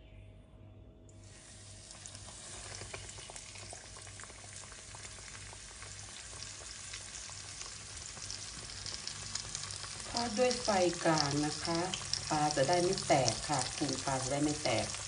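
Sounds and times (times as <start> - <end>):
fish sizzling in oil: 1.2 - 15.0.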